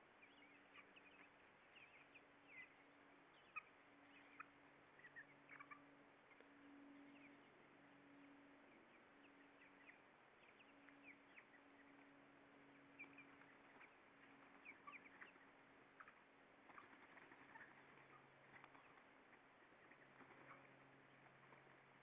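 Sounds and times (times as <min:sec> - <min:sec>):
low steady hum: 0:00.0 - 0:22.0
bird chirps and peeps: 0:00.1 - 0:22.0.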